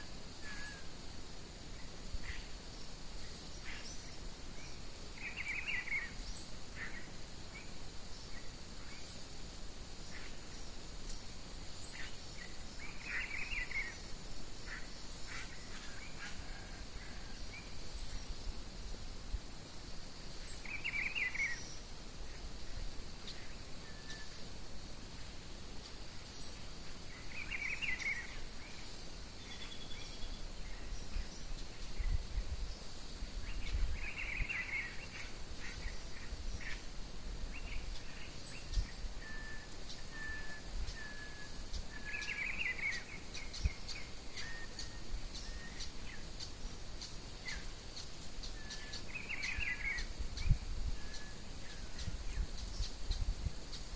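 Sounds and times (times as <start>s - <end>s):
faint steady high hiss: 0.0s - 53.9s.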